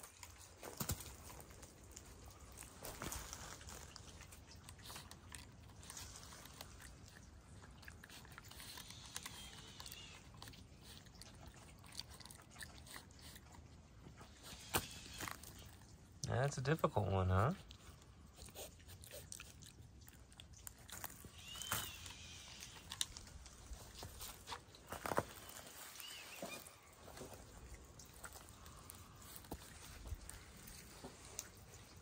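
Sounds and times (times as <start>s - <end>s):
animal gnawing wood: 0.0s - 16.2s, 17.6s - 32.0s.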